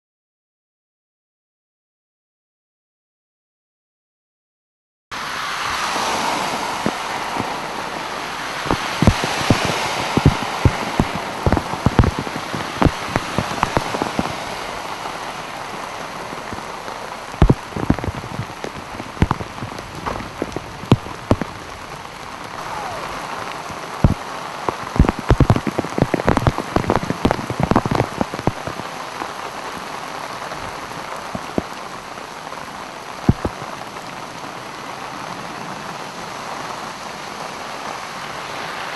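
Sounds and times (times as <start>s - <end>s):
heavy rain on a flooded street: 5.1s - 38.9s.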